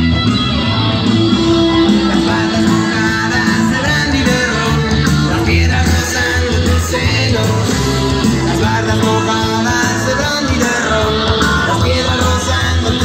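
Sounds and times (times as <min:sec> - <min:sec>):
rock and roll song over sound system: 0:00.0 - 0:13.0.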